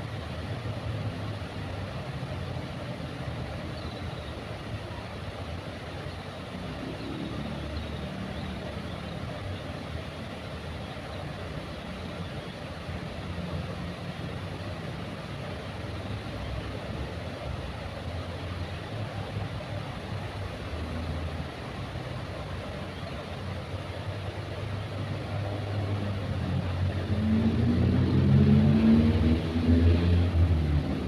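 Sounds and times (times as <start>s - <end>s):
locomotive engine drone: 4.2s - 31.0s.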